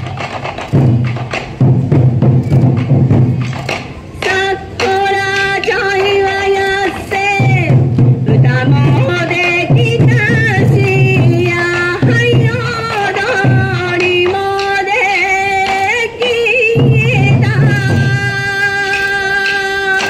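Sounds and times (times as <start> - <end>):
taiko drumming: 0.0 - 20.0.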